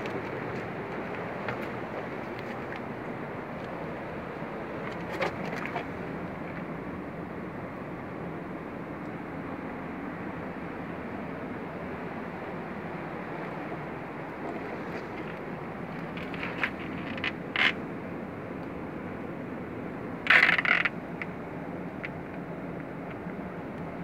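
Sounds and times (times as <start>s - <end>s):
steady rushing shore noise: 0.0s - 24.0s.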